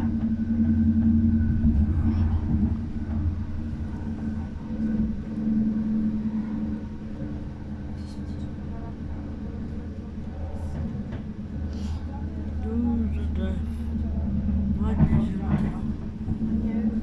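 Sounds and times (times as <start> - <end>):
train rumbling from inside carriage: 0.0 - 17.0.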